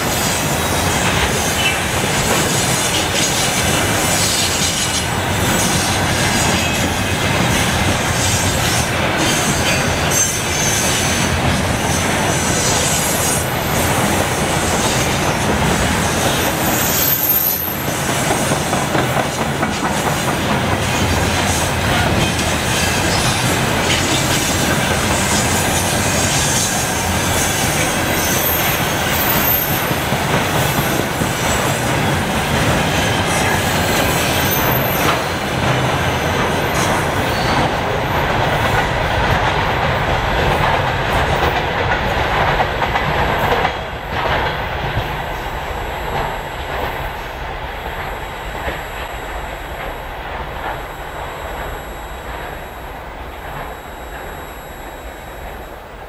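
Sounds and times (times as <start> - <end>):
train wheels clattering on rails: 0.0 - 51.7.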